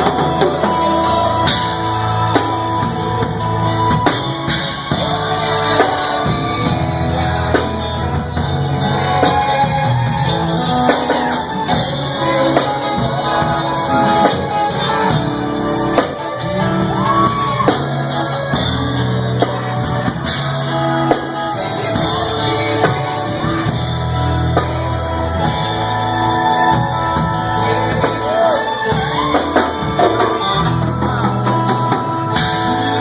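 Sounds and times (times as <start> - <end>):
drum kit beat: 0.0 - 33.0
guitar: 0.0 - 33.0
person singing: 0.0 - 33.0.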